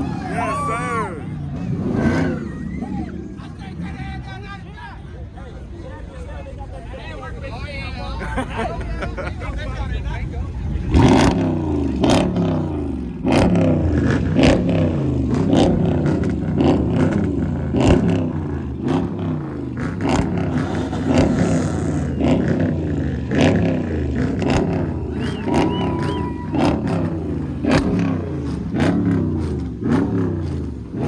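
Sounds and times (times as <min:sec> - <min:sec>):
engines revving hard: 0:00.0 - 0:31.0.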